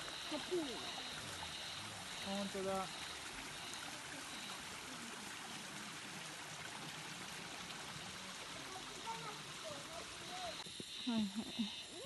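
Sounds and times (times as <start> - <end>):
rushing mountain stream: 0.0 - 12.0.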